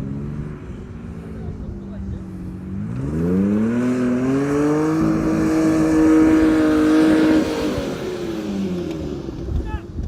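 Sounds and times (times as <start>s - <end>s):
vehicle engine revving: 0.0s - 9.7s.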